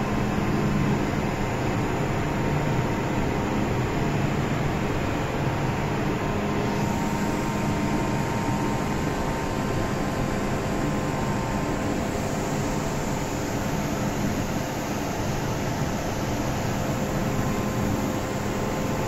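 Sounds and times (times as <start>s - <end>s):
standing train hum and hiss: 0.0s - 19.0s.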